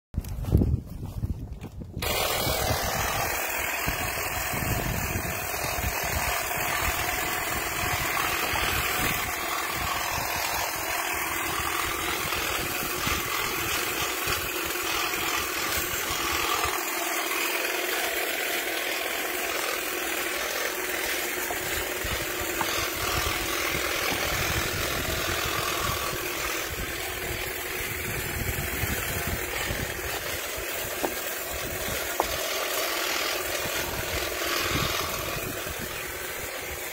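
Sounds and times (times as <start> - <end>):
hedge trimmer cutting: 1.9 - 36.9.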